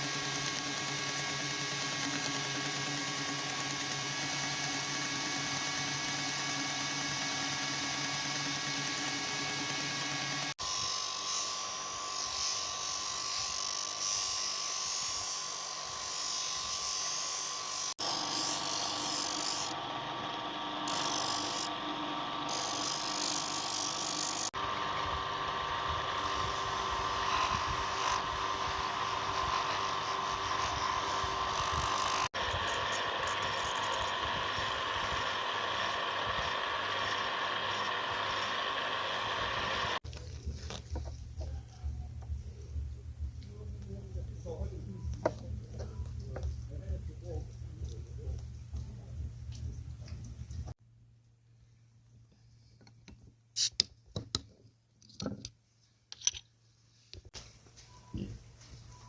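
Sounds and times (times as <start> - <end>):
power tool motor whine: 0.0 - 50.7.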